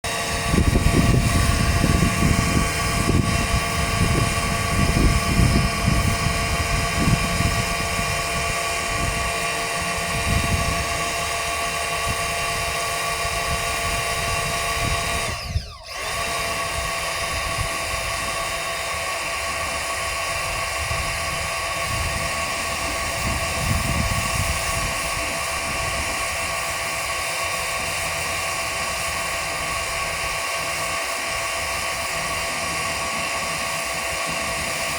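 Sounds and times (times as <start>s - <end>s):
pressure washer pump whining: 0.0s - 34.9s.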